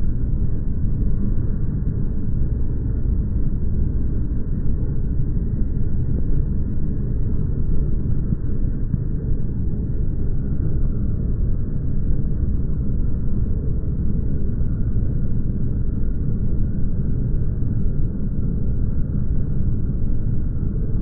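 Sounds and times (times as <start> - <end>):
deep steady rumble: 0.0 - 21.0.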